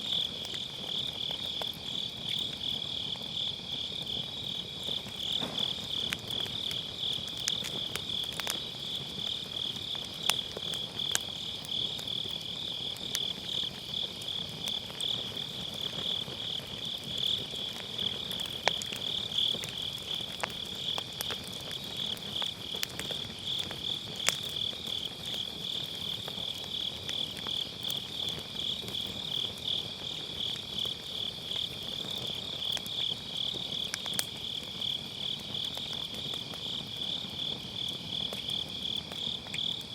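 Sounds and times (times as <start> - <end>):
insects chirping trill: 0.0 - 39.9
wood fire crackling and popping: 0.0 - 39.9.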